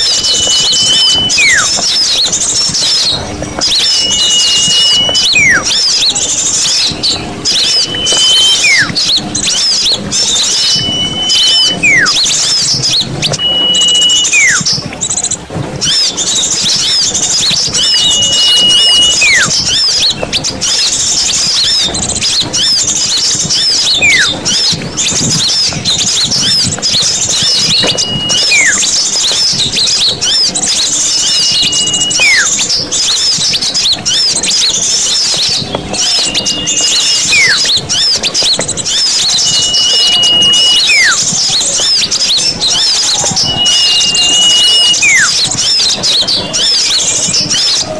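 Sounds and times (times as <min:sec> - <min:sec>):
bird call with downward whistle: 0:00.0 - 0:47.9
songbirds chirping and twittering: 0:00.0 - 0:47.9.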